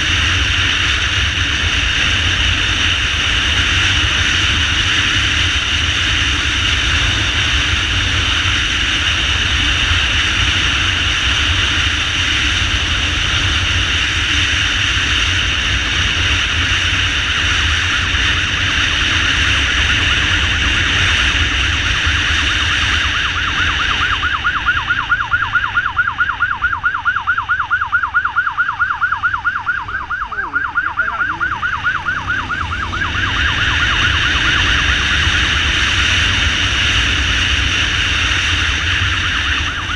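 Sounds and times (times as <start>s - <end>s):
road and wind noise: 0.0s - 39.9s
warbling emergency siren: 0.0s - 39.9s.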